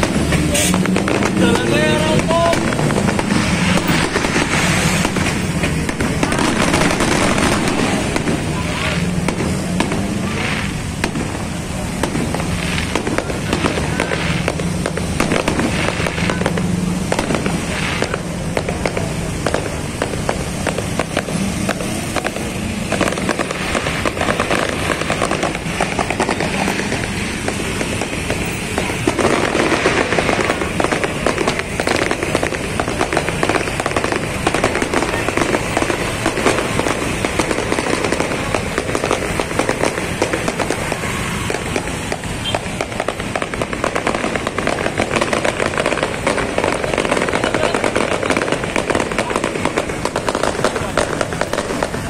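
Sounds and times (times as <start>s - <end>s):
crowd noise: 0.0s - 52.0s
fireworks crackling and banging: 0.0s - 52.0s
motorbike street noise: 0.0s - 52.0s.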